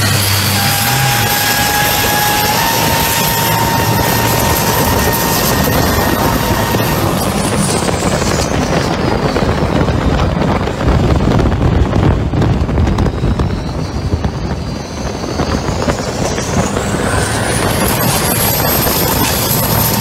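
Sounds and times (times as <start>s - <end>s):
boat diesel engine drone: 0.0s - 20.0s
high turbo whine: 0.0s - 20.0s.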